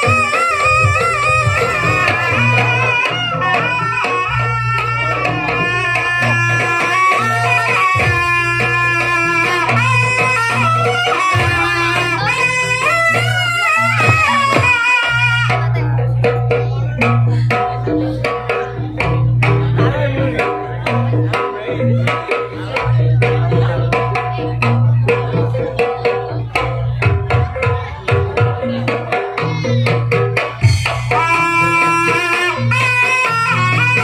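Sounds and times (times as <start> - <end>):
hand drums: 0.0 - 34.0
pitched metallic notes: 0.0 - 34.0.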